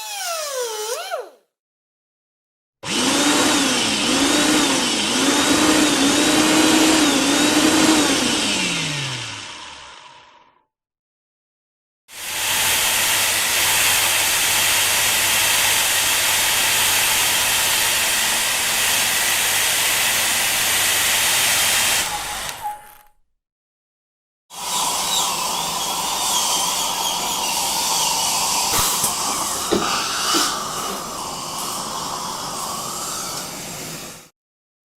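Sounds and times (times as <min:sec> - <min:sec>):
electric power drill whining: 0:02.8 - 0:10.5, 0:12.2 - 0:23.1, 0:24.6 - 0:34.2.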